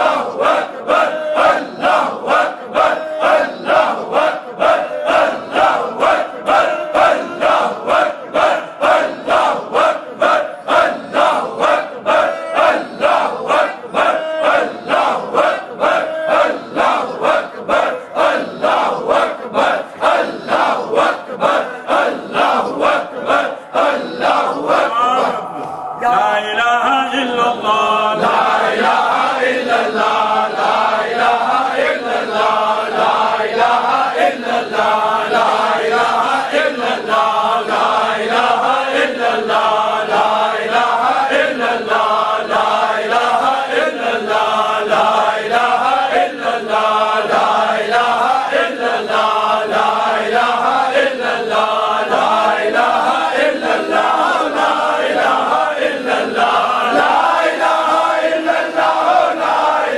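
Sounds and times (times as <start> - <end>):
group of men chanting: 0.0 - 59.9.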